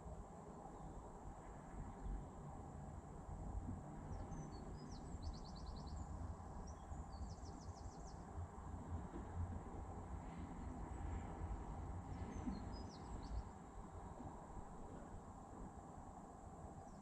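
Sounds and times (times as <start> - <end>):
faint low rumble: 0.0 - 17.0.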